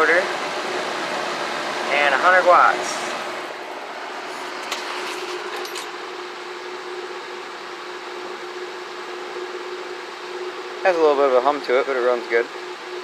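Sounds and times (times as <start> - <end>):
box fan rushing air: 0.0 - 11.6.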